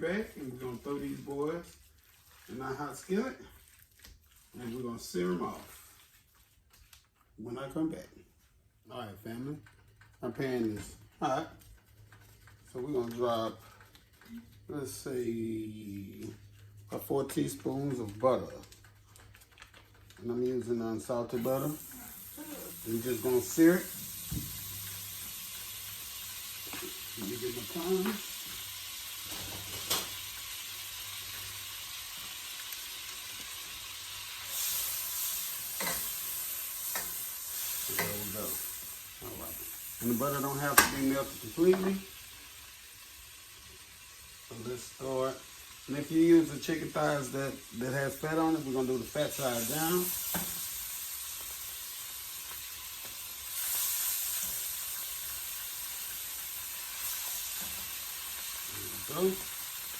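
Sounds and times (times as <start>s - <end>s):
butter sizzling in a skillet: 0.0s - 6.6s, 10.3s - 59.9s.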